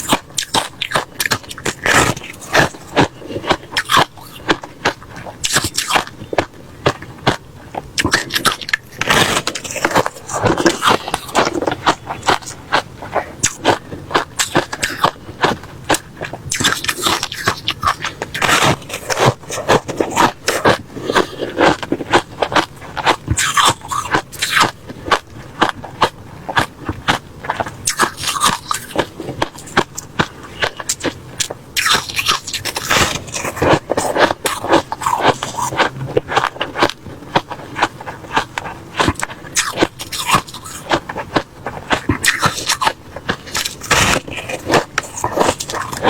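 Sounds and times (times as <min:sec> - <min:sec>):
person chewing crushed ice: 0:00.0 - 0:46.0.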